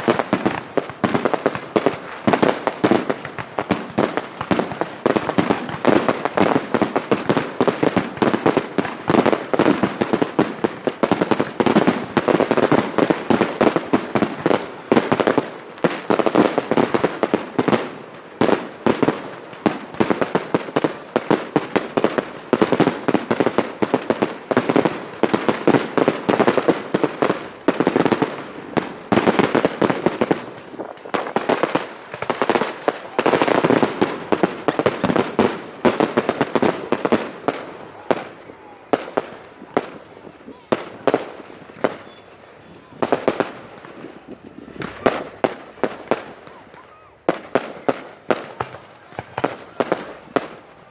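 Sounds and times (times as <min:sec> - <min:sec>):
fireworks bursts and crackling: 0:00.0 - 0:50.9.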